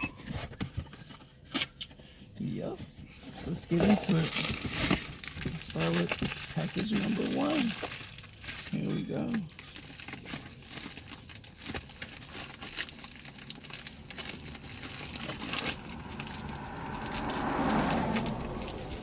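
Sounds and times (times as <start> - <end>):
wrapping rustling: 0.1 - 19.0
package wrapping crinkling: 3.5 - 19.0.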